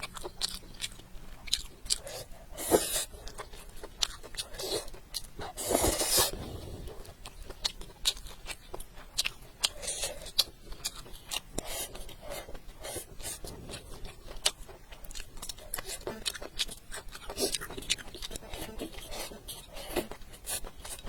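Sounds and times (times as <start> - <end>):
wet chewing and smacking: 0.0 - 21.0.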